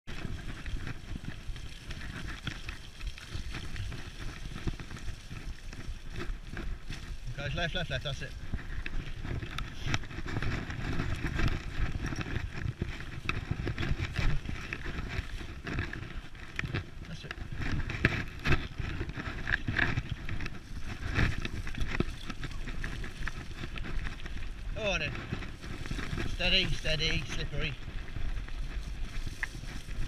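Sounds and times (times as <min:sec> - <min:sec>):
scooter rattling over dirt trail: 0:00.1 - 0:30.0
steady rushing noise: 0:03.4 - 0:30.0.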